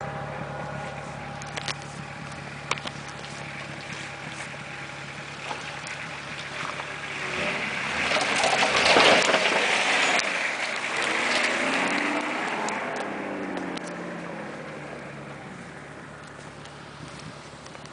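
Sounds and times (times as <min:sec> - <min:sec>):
off-road vehicle engine running: 0:00.0 - 0:17.9.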